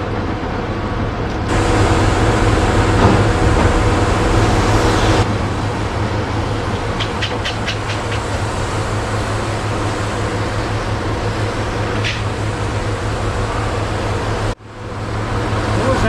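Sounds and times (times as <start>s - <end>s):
heavy machinery running: 0.0s - 16.0s.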